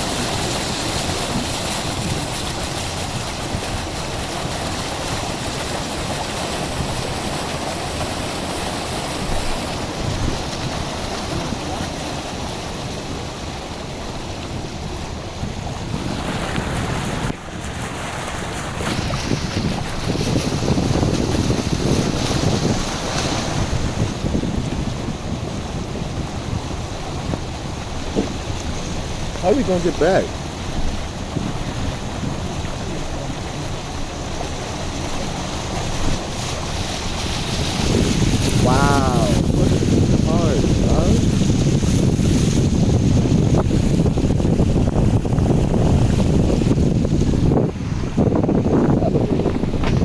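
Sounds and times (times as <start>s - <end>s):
car driving through water: 0.0s - 50.0s
floodwater rushing: 0.0s - 50.0s
wind noise: 0.0s - 50.0s.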